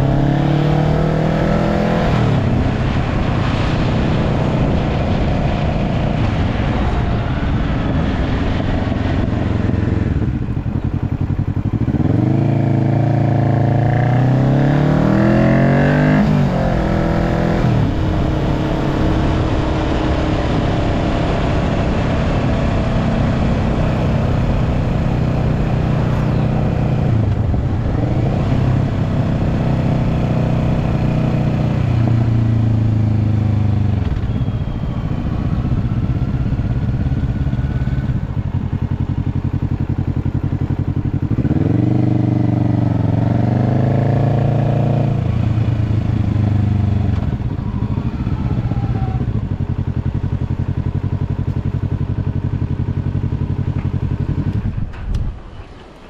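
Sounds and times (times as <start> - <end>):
motorcycle engine revving: 0.0 - 55.6.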